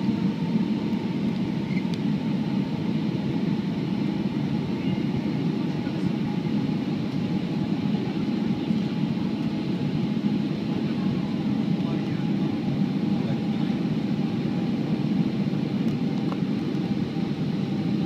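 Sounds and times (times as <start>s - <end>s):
airliner cabin engine drone: 0.0s - 18.0s
faint steady whine: 0.0s - 18.0s.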